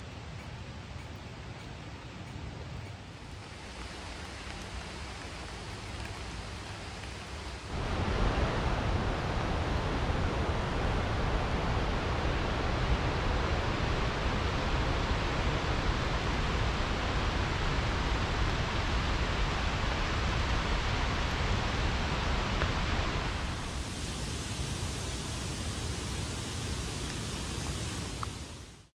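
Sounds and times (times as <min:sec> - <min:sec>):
river whitewater rushing: 0:03.2 - 0:28.1.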